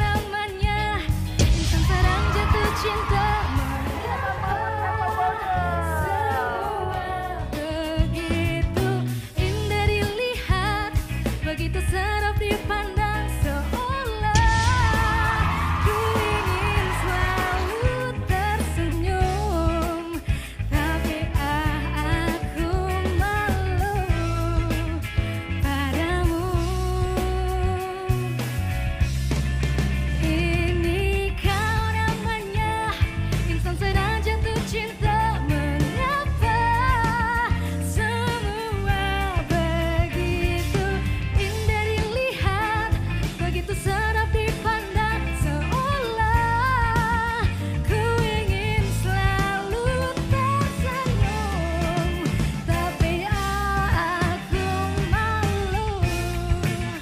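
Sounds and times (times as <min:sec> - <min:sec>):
woman singing into microphone: 0:00.0 - 0:28.6, 0:30.2 - 0:57.0
live band playing: 0:00.0 - 0:57.0.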